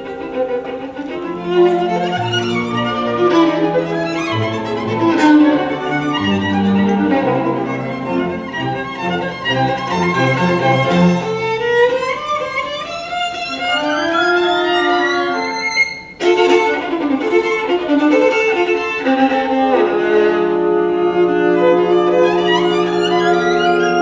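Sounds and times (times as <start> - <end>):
orchestra playing: 0.0 - 24.0
solo violin: 0.0 - 24.0.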